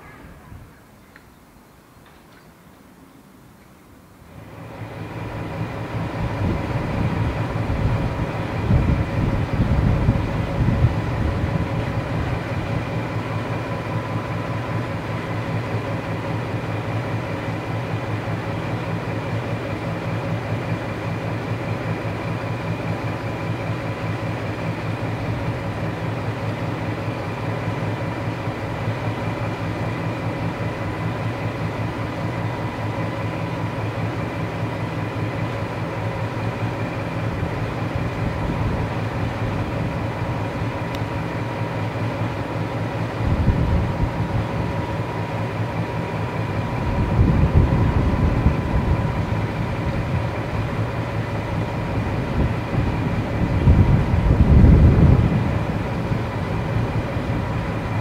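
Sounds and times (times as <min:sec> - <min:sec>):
diesel engine idling: 0:02.8 - 0:58.0
deeper engine rumble: 0:03.9 - 0:58.0.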